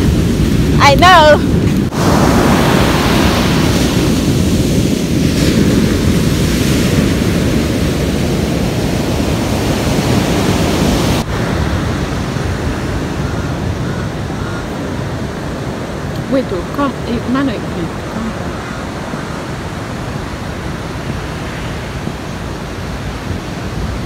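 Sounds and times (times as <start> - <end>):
ocean surf breaking on beach: 0.0 - 24.0
wind rumbling on microphone: 0.0 - 24.0.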